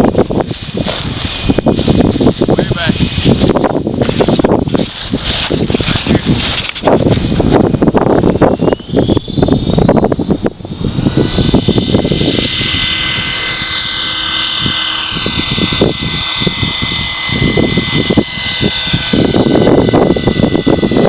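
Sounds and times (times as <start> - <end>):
model helicopter whine: 0.0 - 21.0
wind buffeting microphone: 0.0 - 21.0.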